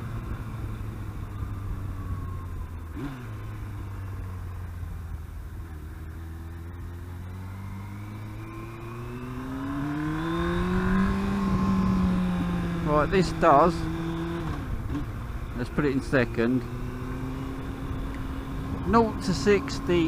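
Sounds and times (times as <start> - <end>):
motorcycle engine running and revving: 0.0 - 20.0.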